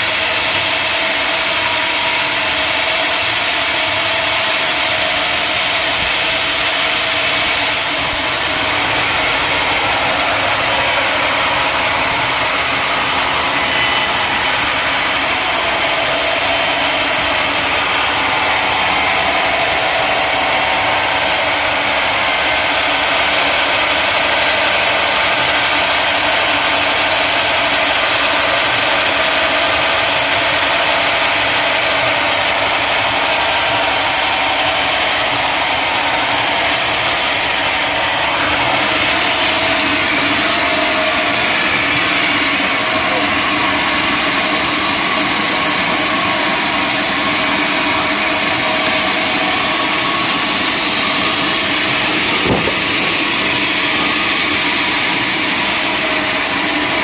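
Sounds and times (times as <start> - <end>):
sawmill machinery sawing wood: 0.0 - 57.0.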